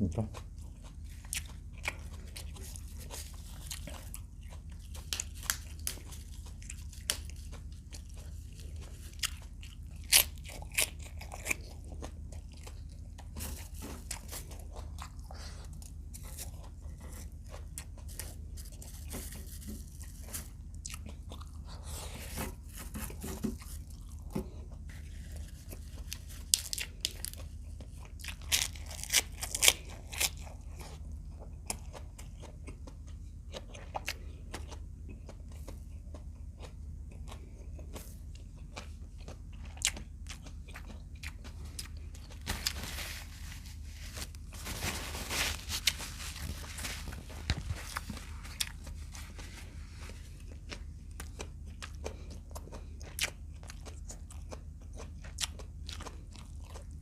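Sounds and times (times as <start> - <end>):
steady low hum: 0.0 - 57.0
person crunching and chewing: 0.1 - 57.0.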